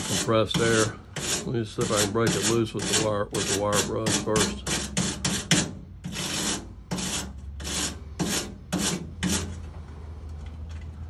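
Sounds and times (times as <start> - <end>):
wire brush scraping metal mesh: 0.0 - 9.6.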